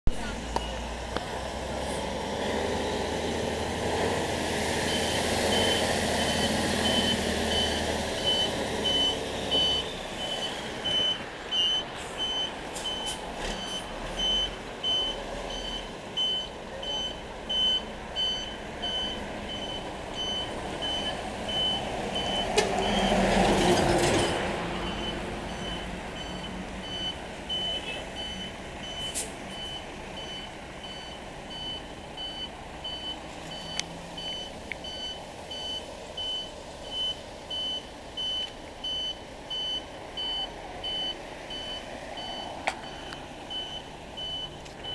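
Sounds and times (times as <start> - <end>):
heavy vehicle passing: 0.2 - 38.2
reversing alarm beeping: 4.8 - 23.2, 24.8 - 44.9.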